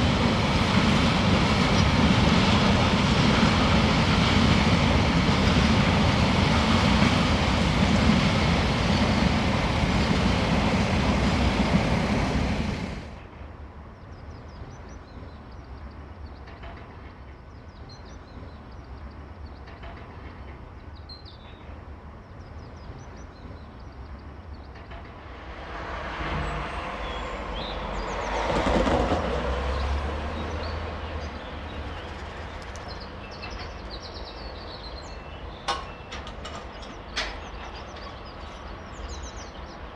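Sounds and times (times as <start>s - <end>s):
trackside ambience: 0.0s - 39.9s
train passing at speed: 0.0s - 39.9s
birds chirping: 0.6s - 12.9s, 13.9s - 25.2s, 26.3s - 39.9s.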